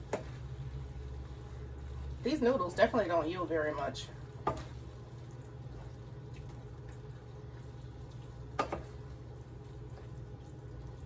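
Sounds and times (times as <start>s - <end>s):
food bubbling in a skillet: 0.0s - 11.0s.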